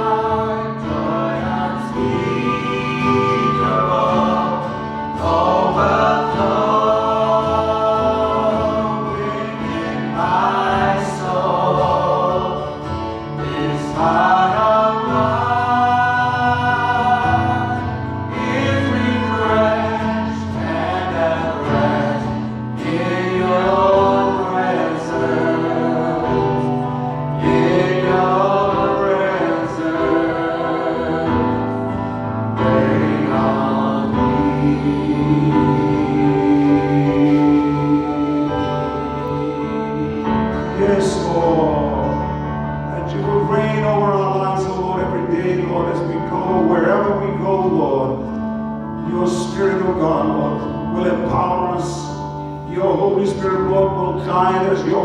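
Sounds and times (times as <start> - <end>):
group singing gospel song: 0.0 - 55.0
instrumental accompaniment: 0.0 - 55.0.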